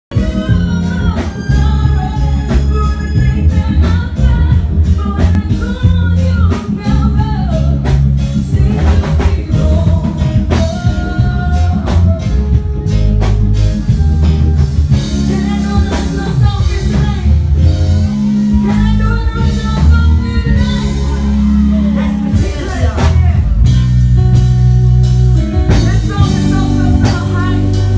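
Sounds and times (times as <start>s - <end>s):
steady bass line: 0.0s - 27.9s
live band over a pa system: 0.1s - 27.9s
person singing: 0.1s - 27.9s.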